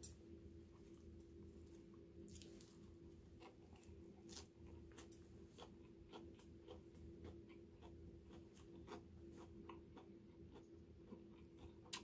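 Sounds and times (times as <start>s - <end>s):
low steady hum: 0.0s - 12.0s
faint chewing crunches: 0.7s - 12.0s.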